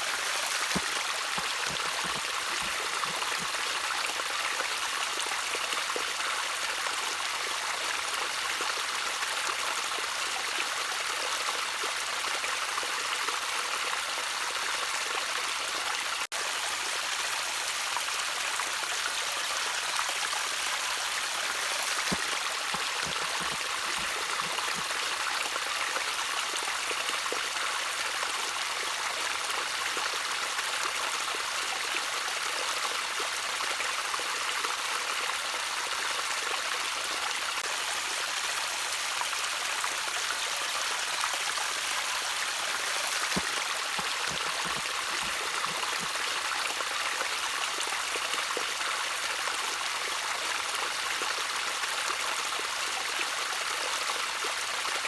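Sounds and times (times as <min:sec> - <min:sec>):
water trickling in a stream: 0:00.0 - 0:55.0.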